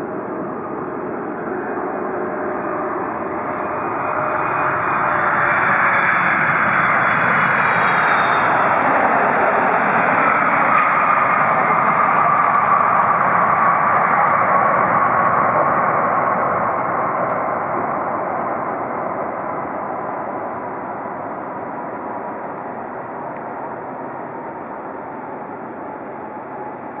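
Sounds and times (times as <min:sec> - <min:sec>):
jet engines rushing and whining: 0:00.0 - 0:27.0.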